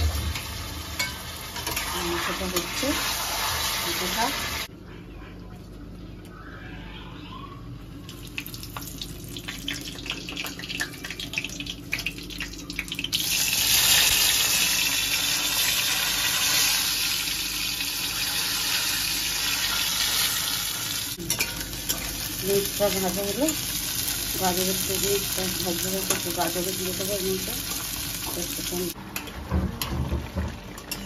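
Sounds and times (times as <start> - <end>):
loud oil sizzle: 0.0 - 4.7, 8.1 - 29.0.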